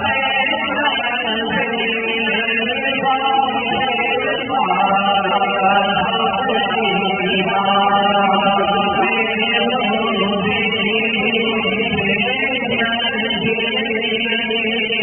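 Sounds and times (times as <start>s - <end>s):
man chanting through microphone: 0.0s - 15.0s.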